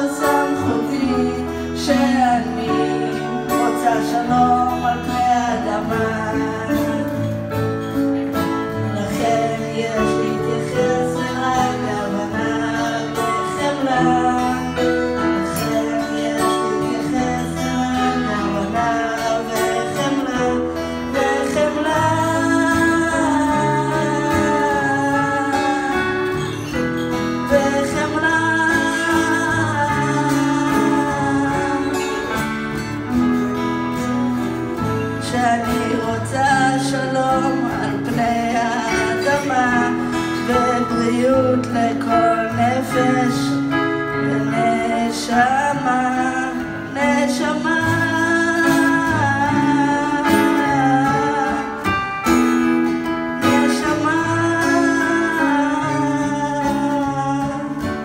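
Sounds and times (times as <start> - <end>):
woman singing into microphone: 0.0 - 33.5, 34.8 - 58.0
keyboard: 0.0 - 58.0
strummed acoustic guitar: 0.0 - 58.0.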